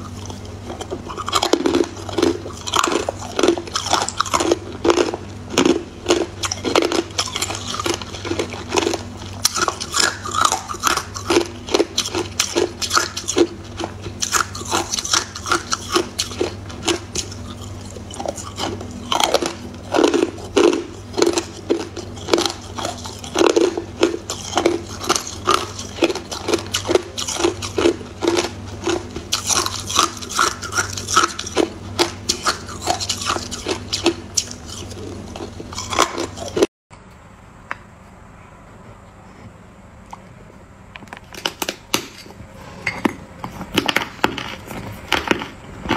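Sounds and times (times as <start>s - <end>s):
ice cubes crunching while chewed: 0.0s - 36.7s, 43.6s - 45.9s.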